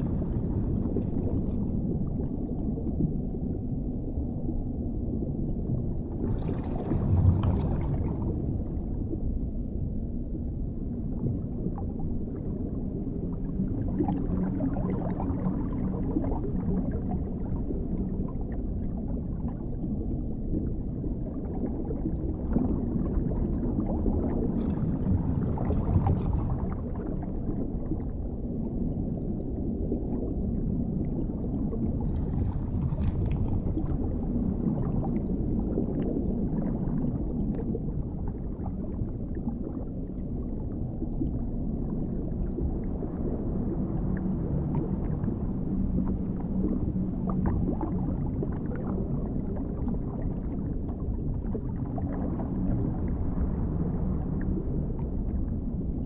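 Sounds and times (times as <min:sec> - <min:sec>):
deep underwater rumble: 0:00.0 - 0:56.0.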